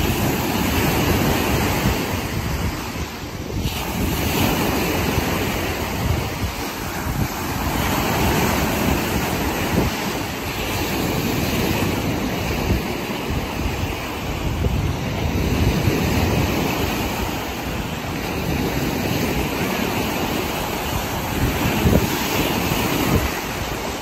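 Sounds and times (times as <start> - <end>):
small waves washing on shore: 0.0 - 24.0
wind buffeting microphone: 0.0 - 24.0.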